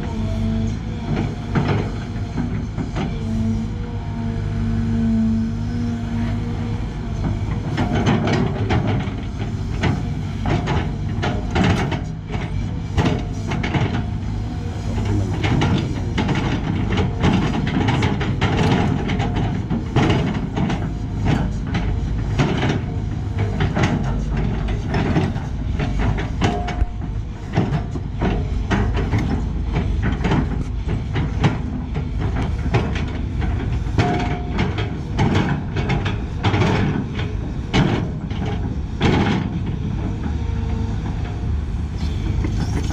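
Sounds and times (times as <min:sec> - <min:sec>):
excavator diesel engine and hydraulics: 0:00.0 - 0:42.9.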